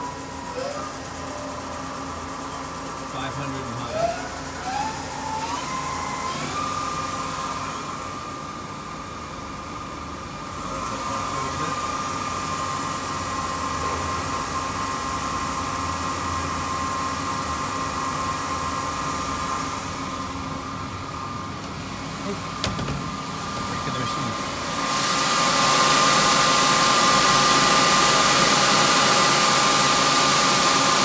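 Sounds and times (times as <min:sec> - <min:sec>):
lathe spindle whine: 0:00.0 - 0:22.6, 0:23.2 - 0:31.0.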